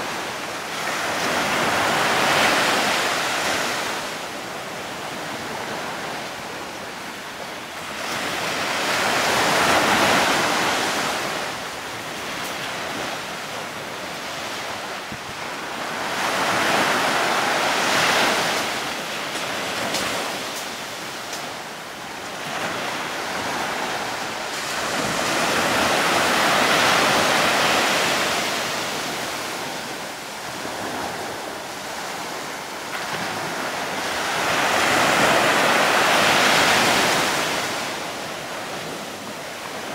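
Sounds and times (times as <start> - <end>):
sea waves: 0.0 - 39.9.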